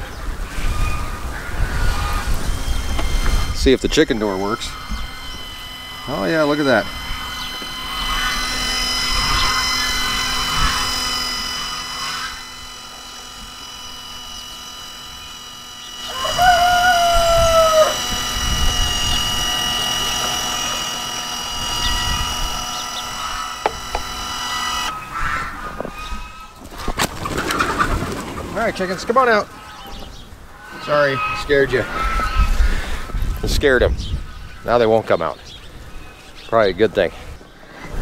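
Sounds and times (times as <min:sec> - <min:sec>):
chicken calling: 0:00.0 - 0:33.1
motor whining: 0:00.0 - 0:38.0.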